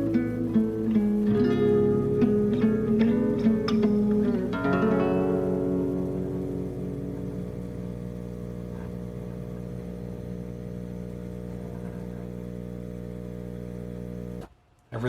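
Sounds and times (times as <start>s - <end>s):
machine hum: 0.0s - 14.5s.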